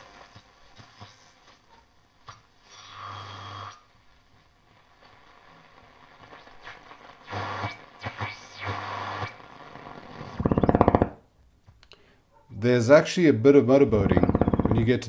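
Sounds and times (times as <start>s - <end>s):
radio static and hiss: 0.0s - 11.2s, 12.6s - 15.0s.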